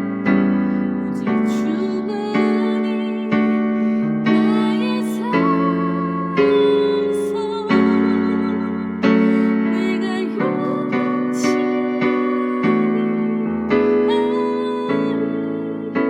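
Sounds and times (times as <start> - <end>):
electronic keyboard playing hymn: 0.0 - 16.0.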